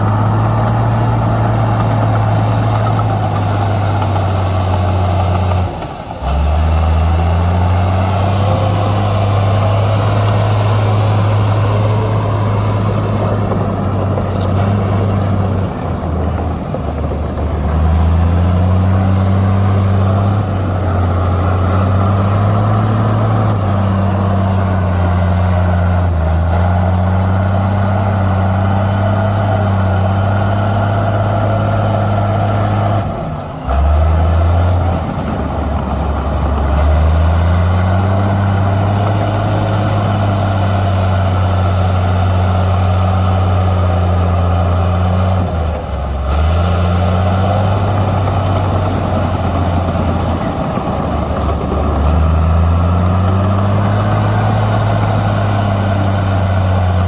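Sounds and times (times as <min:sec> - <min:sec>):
heavy diesel engine drone: 0:00.0 - 0:57.0.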